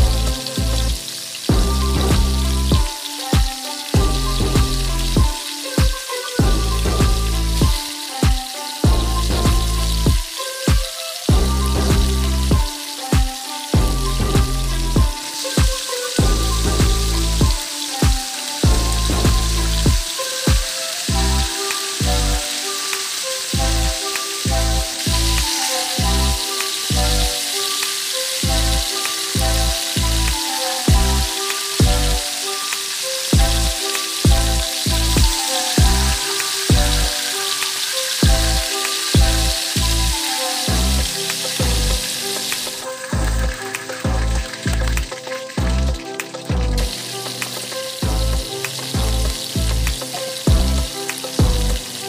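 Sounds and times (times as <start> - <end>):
background music with bass beat: 0.0 - 52.0
chicken deep-frying sizzle: 0.0 - 52.0.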